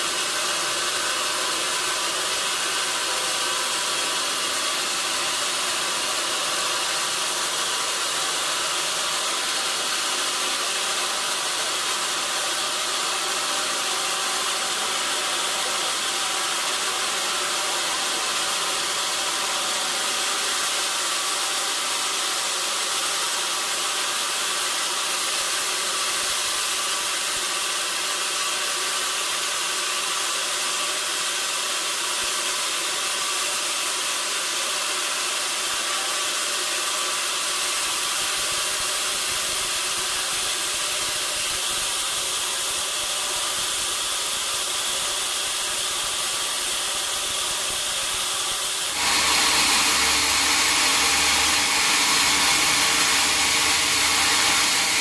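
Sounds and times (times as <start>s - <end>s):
sawmill machinery humming and whining: 0.0s - 55.0s.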